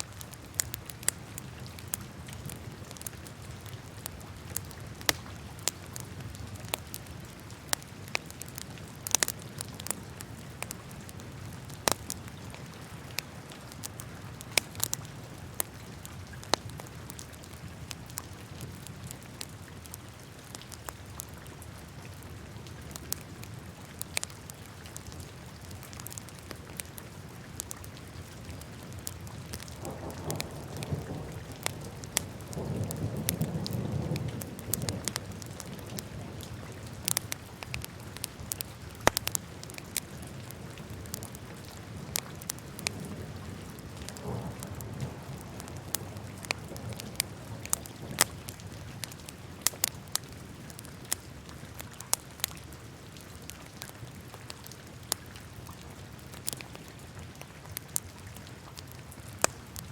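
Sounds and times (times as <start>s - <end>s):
fire crackles and pops: 0.0s - 59.9s.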